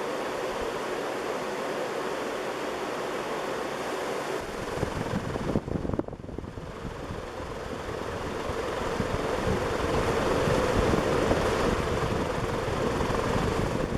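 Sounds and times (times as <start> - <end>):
ceiling fan air rush: 0.0 - 13.9.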